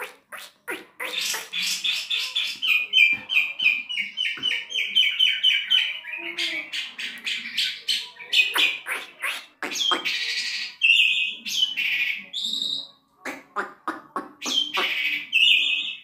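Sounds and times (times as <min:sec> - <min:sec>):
starling singing: 0:00.0 - 0:16.0.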